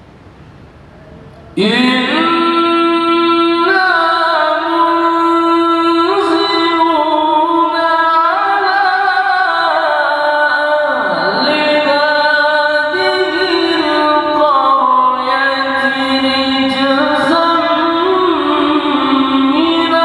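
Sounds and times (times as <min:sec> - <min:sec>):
man chanting into a microphone: 0:01.6 - 0:20.0.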